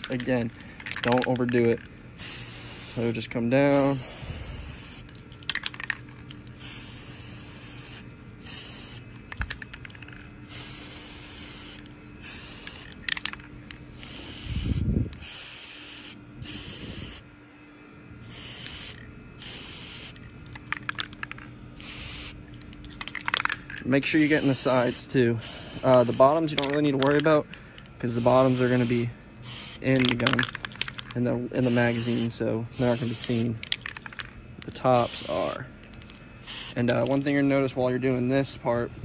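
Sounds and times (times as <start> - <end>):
spray paint can hissing: 0.0 - 17.2, 18.2 - 27.4, 28.1 - 37.4.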